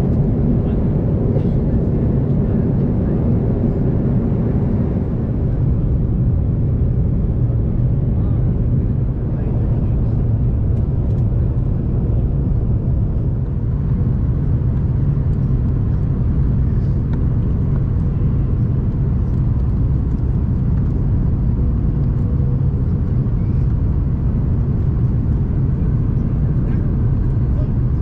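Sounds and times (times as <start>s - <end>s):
jet engine cabin rumble: 0.0s - 28.0s.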